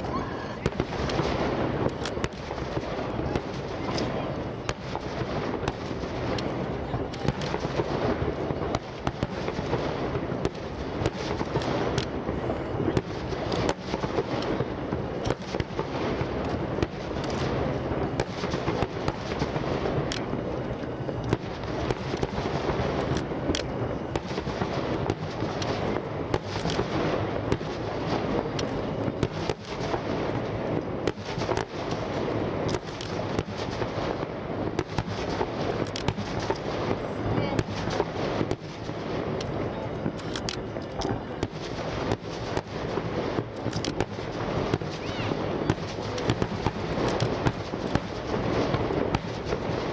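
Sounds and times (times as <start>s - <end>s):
fireworks rumble and crackle: 0.0s - 49.9s.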